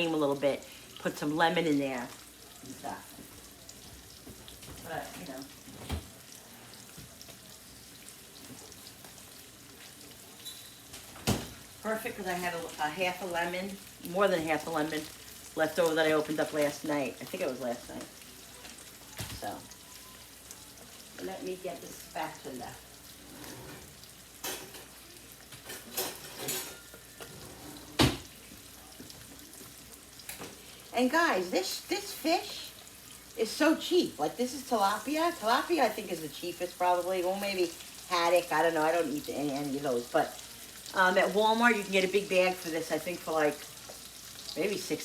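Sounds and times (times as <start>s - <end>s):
fish sizzling in a pan: 0.0s - 45.0s.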